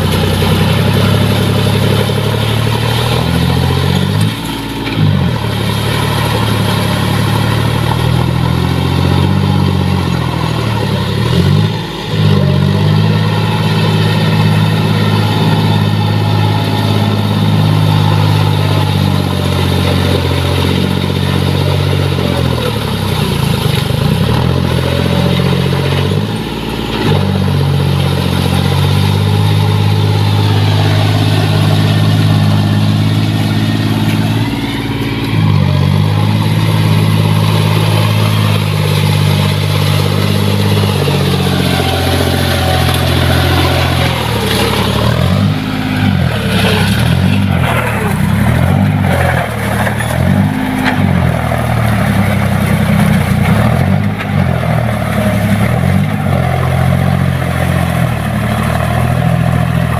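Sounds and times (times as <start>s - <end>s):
tractor diesel engine straining: 0.0s - 59.9s
wheels churning through mud: 0.0s - 59.9s.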